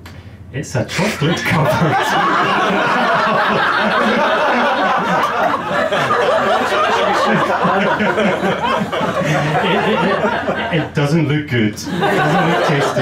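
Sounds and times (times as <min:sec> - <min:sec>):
audience laughing: 0:01.0 - 0:11.2, 0:11.8 - 0:13.0.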